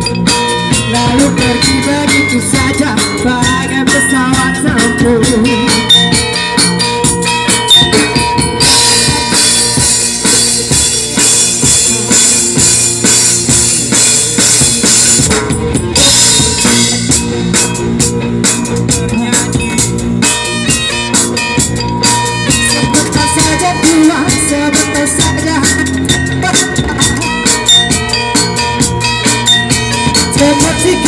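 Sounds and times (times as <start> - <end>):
cymbals washing: 0.0 - 15.3, 16.0 - 31.0
drum beat: 0.0 - 31.0
live band playing: 0.0 - 31.0.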